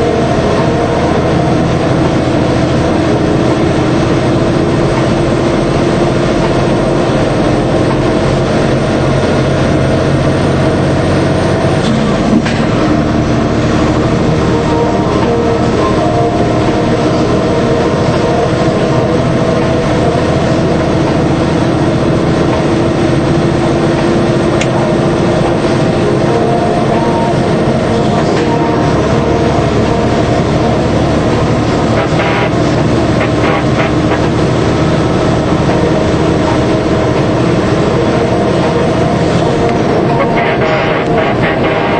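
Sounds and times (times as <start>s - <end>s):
road noise: 0.0s - 41.9s
truck diesel engine running: 0.0s - 41.9s.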